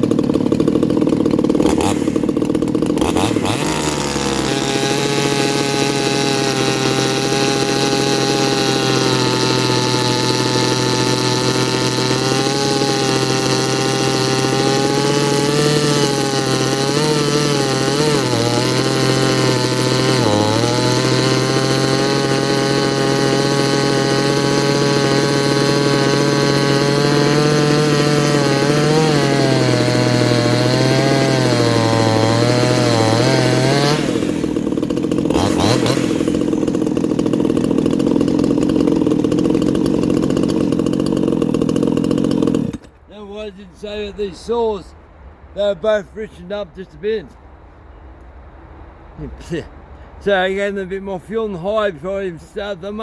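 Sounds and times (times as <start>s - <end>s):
chainsaw running: 0.0s - 43.2s.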